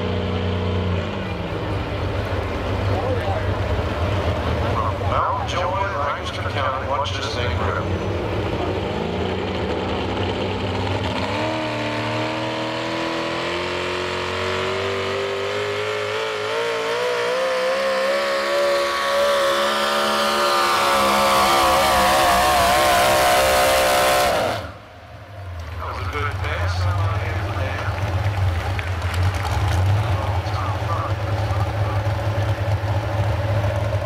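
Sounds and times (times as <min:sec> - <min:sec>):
supercharged truck engine under load: 0:00.0 - 0:34.0.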